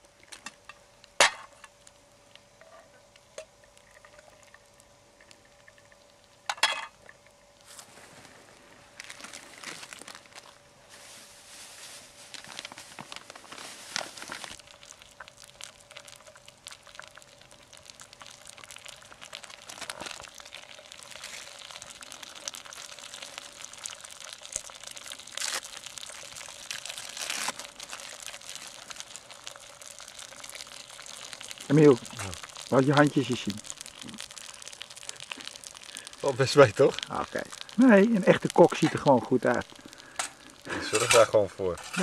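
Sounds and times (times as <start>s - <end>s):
eggs sizzling in a pan: 0.0s - 10.6s, 11.4s - 42.0s.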